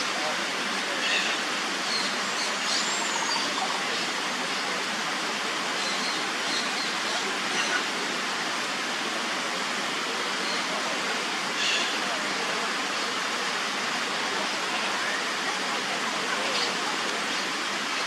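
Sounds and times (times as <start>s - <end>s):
rushing falling water: 0.0s - 18.0s.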